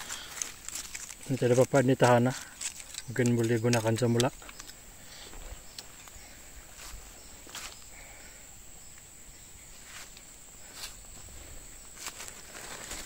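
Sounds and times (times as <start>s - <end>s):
footsteps crunching on leaves: 0.0s - 4.6s, 5.2s - 7.9s, 9.8s - 13.0s.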